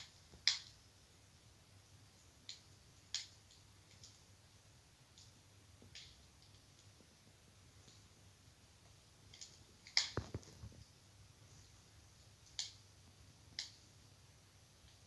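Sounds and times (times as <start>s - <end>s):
wood fire crackling and popping: 0.0s - 1.3s, 2.0s - 15.0s.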